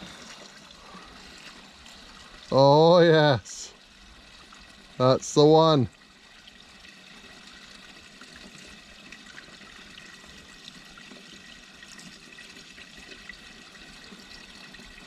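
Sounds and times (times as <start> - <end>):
fuel pouring into a tank: 0.0 - 15.0.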